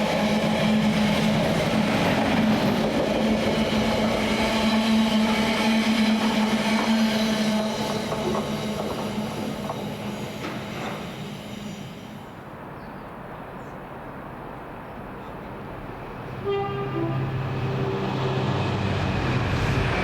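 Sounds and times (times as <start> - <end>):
train passing: 0.0 - 20.0
train steady tones: 0.0 - 20.0.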